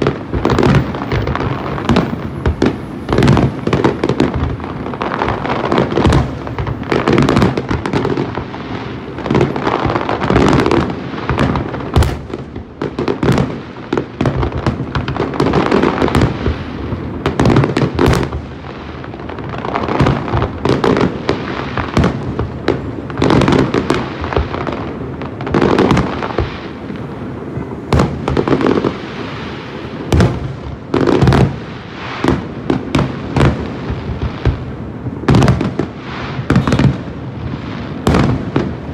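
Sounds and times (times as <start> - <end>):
fireworks bangs: 0.0 - 38.9
fireworks rumble and crackle: 0.0 - 38.9.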